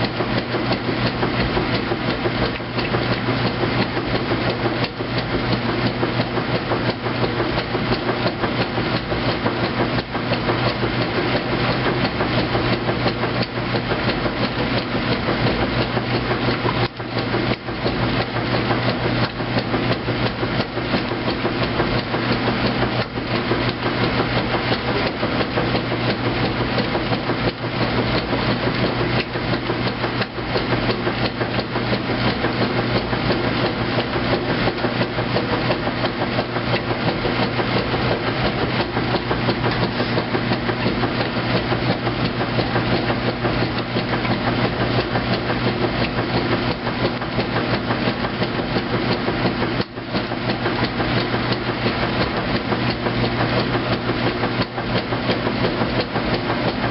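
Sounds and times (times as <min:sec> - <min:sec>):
washing machine agitating: 0:00.0 - 0:56.9.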